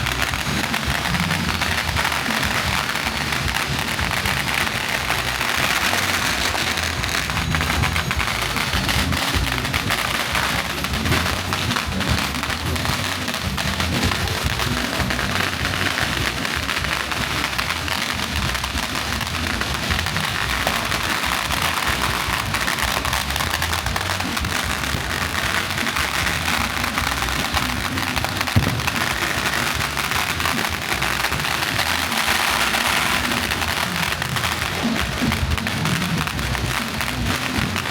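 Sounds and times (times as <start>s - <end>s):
dense continuous crackle: 0.0s - 37.9s
music with low beat: 0.0s - 37.9s.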